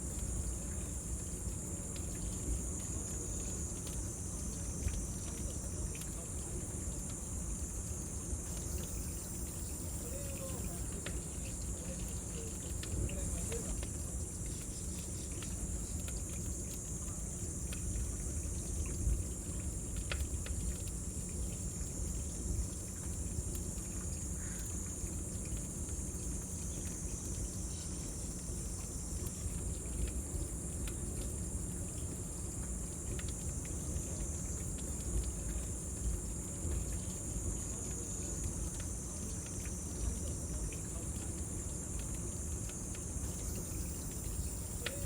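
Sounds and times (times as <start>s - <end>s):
cicadas droning: 0.0s - 45.0s.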